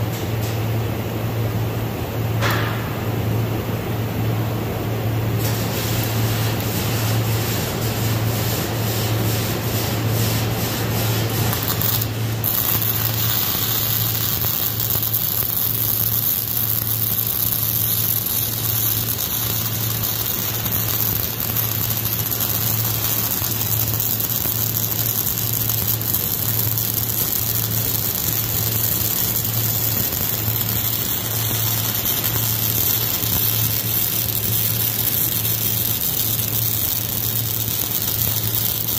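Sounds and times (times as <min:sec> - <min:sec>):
steady low hum: 0:00.0 - 0:38.9
welding arc crackling and hissing: 0:05.3 - 0:38.9.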